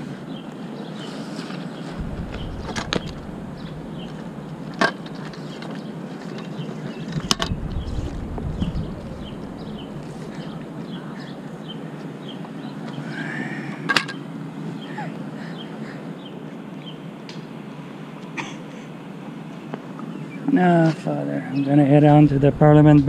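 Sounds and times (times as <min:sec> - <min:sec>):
street background: 0:00.0 - 0:23.0.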